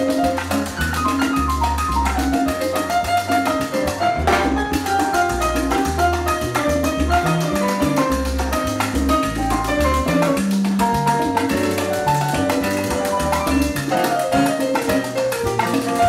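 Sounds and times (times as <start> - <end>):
bass line: 0.0 - 16.0
congas and bongos: 0.0 - 16.0
piano: 0.0 - 16.0
salsa band playing: 0.0 - 16.0.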